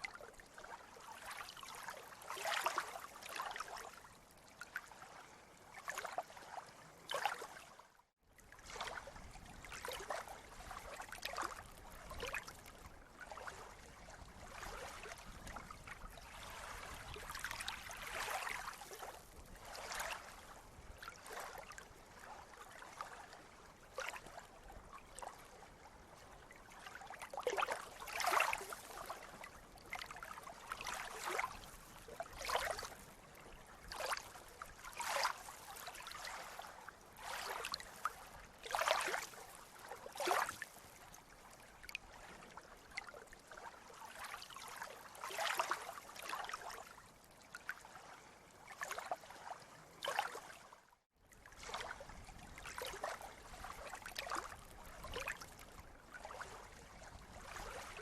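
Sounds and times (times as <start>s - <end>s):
small waves splashing on shore: 0.0s - 58.0s.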